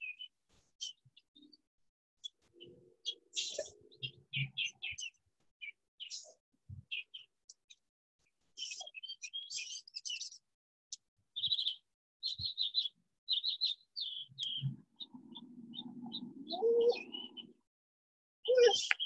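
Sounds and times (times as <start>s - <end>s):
small birds chirping: 0.0s - 17.7s, 18.4s - 19.0s.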